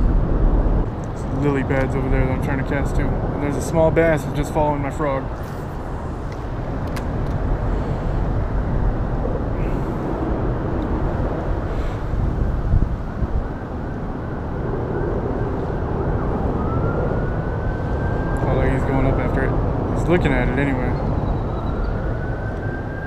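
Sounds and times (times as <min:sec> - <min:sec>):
highway traffic rumble overhead: 0:00.0 - 0:23.0.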